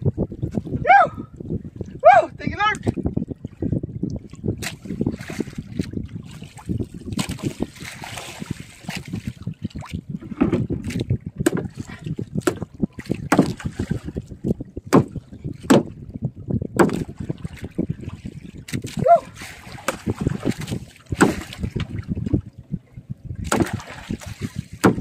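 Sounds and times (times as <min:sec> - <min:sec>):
knocks and thumps on a boat: 0:00.0 - 0:25.0
low steady rumble: 0:00.0 - 0:25.0.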